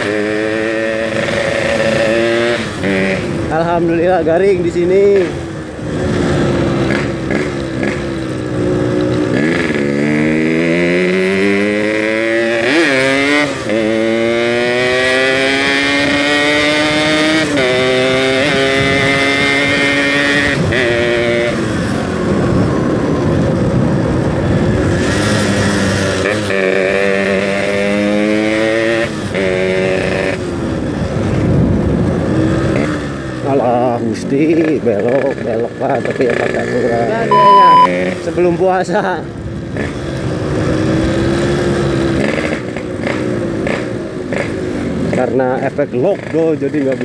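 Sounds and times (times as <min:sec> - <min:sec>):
two-stroke motorcycle engine accelerating: 0:00.0 - 0:47.0.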